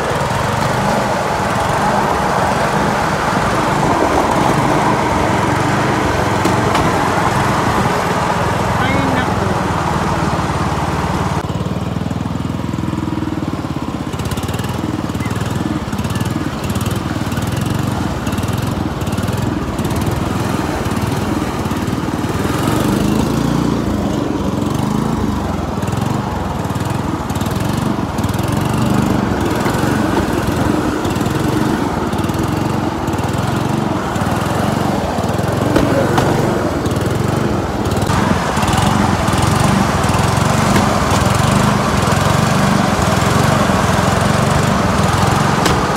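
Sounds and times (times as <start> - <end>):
small engine running: 0.0 - 45.9
trolley rolling along track: 0.0 - 45.9.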